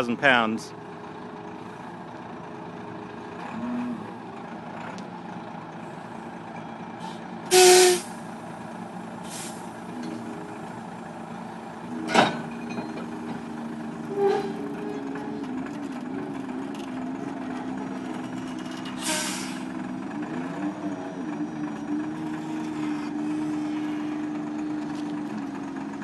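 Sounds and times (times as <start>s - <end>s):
forklift engine running: 0.0s - 26.0s.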